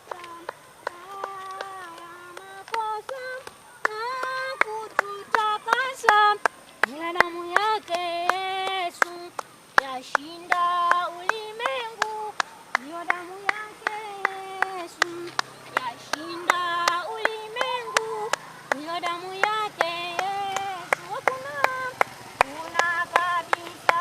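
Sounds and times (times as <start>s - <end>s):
person singing unaccompanied: 0.0s - 24.0s
rhythmic taps or claps: 0.0s - 24.0s.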